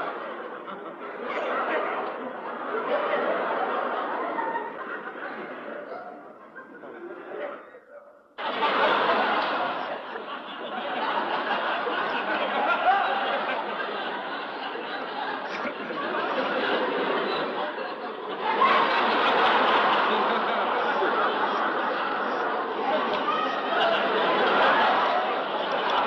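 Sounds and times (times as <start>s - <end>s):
people chattering: 0.0s - 26.0s
people laughing: 0.0s - 26.0s.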